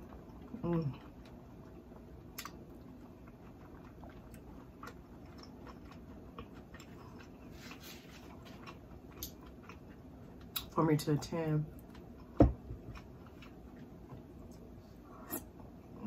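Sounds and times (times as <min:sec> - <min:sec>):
person chewing and swallowing: 0:00.0 - 0:10.8, 0:11.7 - 0:16.0.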